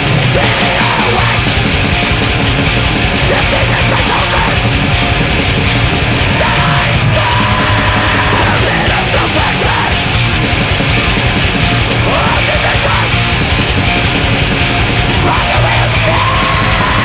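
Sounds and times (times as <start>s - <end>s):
distorted electric guitars: 0.0s - 17.0s
metal drums: 0.0s - 17.0s.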